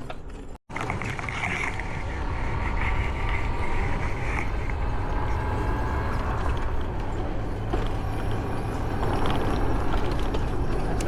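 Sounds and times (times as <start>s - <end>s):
atv engine rumbling: 0.7s - 11.0s.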